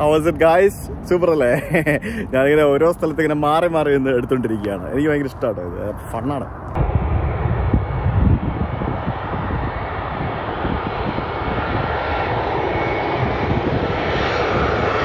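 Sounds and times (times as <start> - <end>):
jet airliner engine noise: 0.0 - 15.0
low gusty wind rumbling: 0.0 - 15.0.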